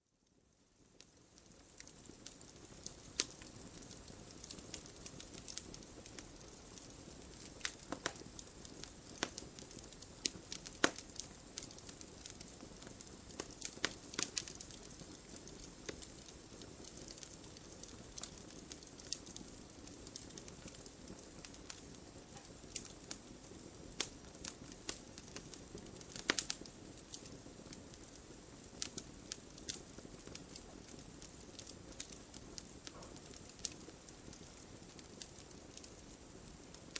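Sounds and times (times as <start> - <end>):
wood fire crackling: 0.2 - 36.9.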